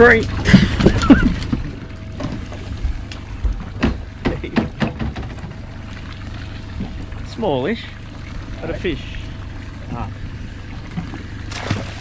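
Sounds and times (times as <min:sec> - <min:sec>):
knocks and splashes: 0:00.0 - 0:07.5, 0:09.4 - 0:12.0
wind and water rumble: 0:00.0 - 0:12.0.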